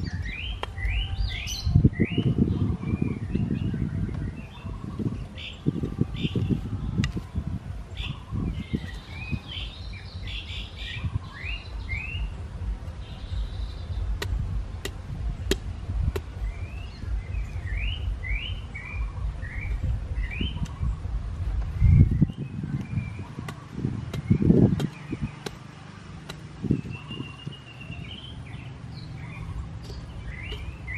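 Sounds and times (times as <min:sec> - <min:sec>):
small birds chirping: 0:00.0 - 0:30.9
steady low rumble: 0:00.0 - 0:30.9.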